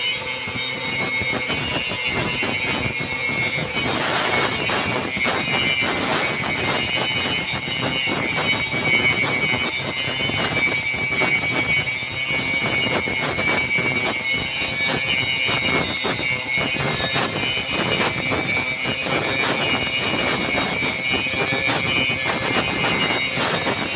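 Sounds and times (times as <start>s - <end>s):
machine running with rapid crackling: 0.0s - 23.9s.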